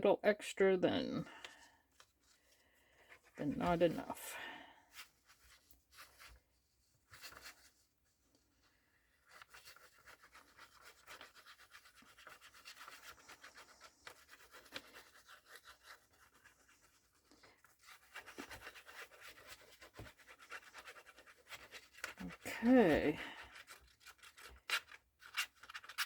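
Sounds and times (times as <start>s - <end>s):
scratching and rubbing on paper: 1.6s - 26.0s.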